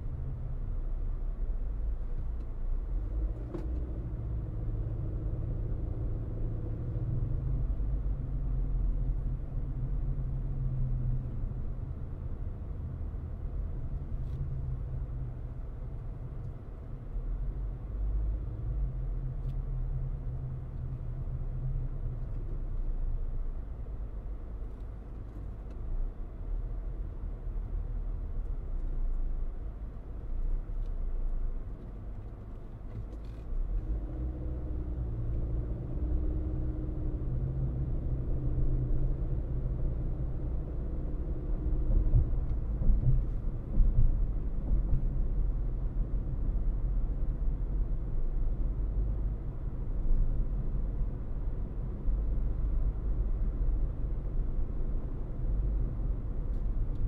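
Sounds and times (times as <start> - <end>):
engine hum: 0.0 - 57.0
road and tyre rumble: 0.0 - 57.0.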